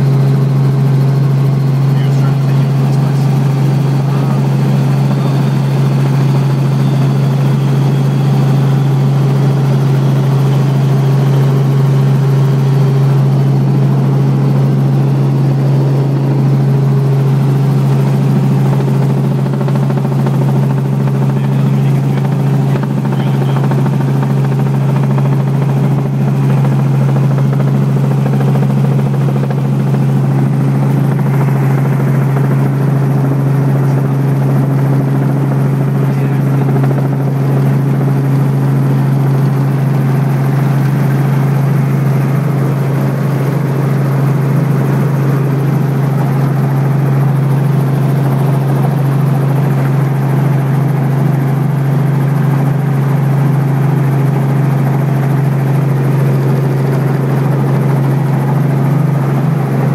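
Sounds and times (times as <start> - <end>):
helicopter cabin drone: 0.0 - 59.9.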